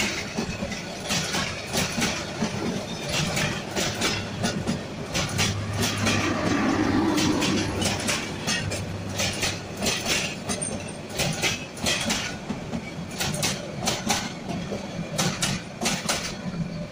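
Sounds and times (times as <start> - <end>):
train rumble: 0.0 - 16.9
train wheels clacking on rail joints: 0.0 - 16.9.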